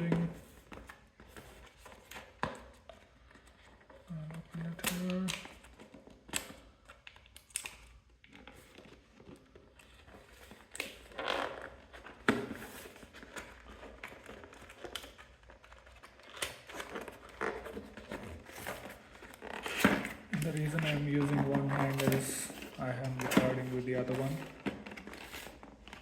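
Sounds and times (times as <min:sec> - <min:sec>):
packaging crinkling and tearing: 0:00.0 - 0:26.0.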